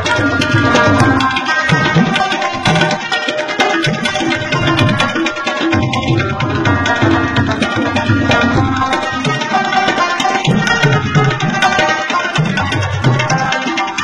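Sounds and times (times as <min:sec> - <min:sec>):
hand drum beat: 0:00.0 - 0:14.0
plucked string instruments: 0:00.0 - 0:14.0.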